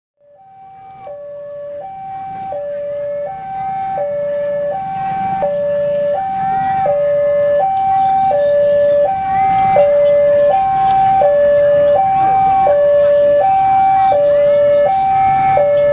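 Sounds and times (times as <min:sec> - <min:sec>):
level crossing two-tone alarm: 0:00.2 - 0:15.9
motorbike engines rumbling: 0:00.2 - 0:15.9.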